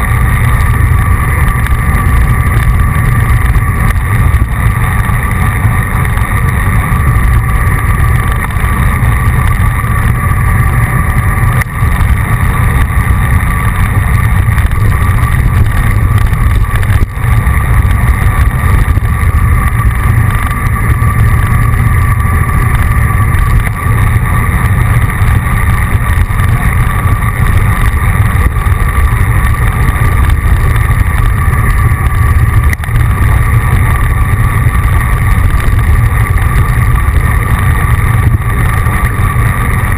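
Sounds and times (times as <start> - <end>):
faint steady hum: 0.0 - 39.9
wind and road rumble: 0.0 - 39.9.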